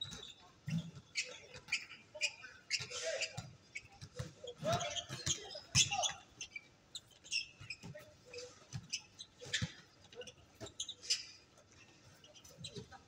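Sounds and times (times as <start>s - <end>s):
sneakers squeaking on court: 0.0s - 13.0s.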